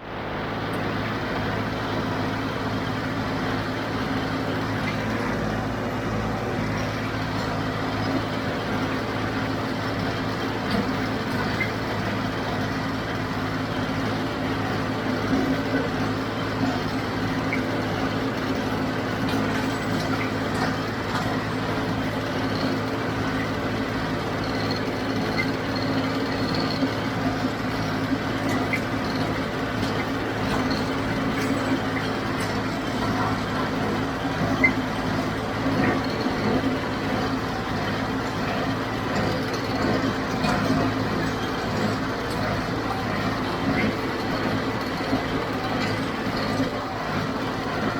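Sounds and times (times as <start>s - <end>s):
square baler working: 0.0s - 47.9s
tractor diesel engine running: 0.0s - 47.9s.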